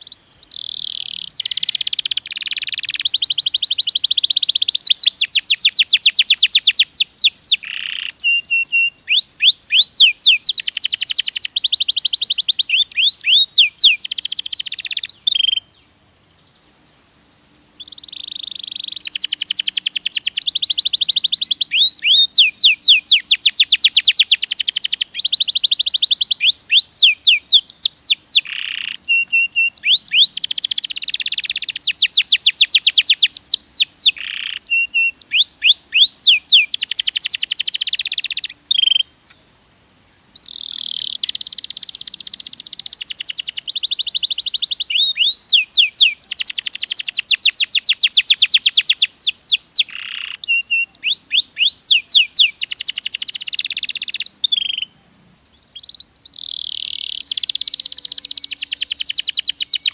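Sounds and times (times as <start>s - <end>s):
canary singing trills: 0.0s - 15.9s, 17.8s - 39.4s, 40.3s - 59.9s.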